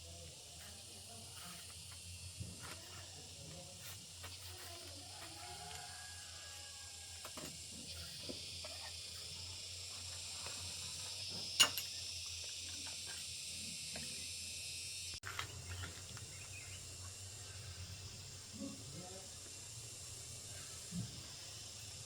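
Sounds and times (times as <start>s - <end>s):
high background hiss: 0.0s - 22.0s.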